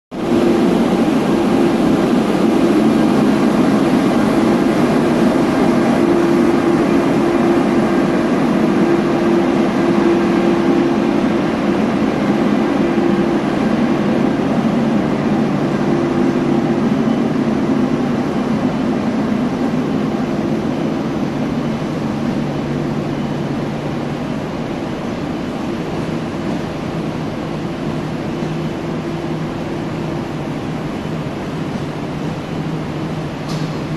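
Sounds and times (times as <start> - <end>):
electric train running with hum: 0.1 - 33.9.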